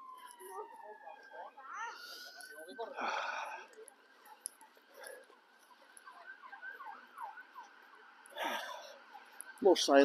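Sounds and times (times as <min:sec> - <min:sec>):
faint emergency sirens wailing: 0:00.0 - 0:10.0.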